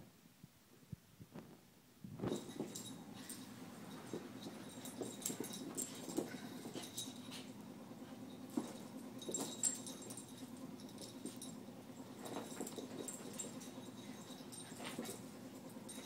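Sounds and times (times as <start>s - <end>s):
dogs scuffling on carpet: 2.2s - 16.0s.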